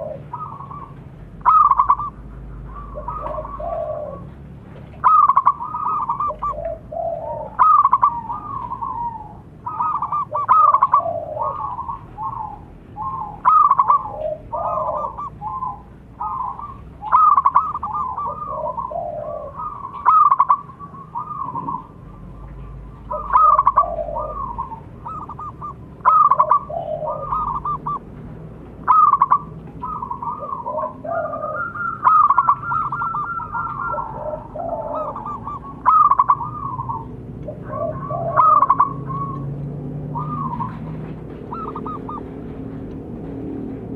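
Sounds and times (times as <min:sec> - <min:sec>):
doves cooing trills: 0:00.0 - 0:43.9.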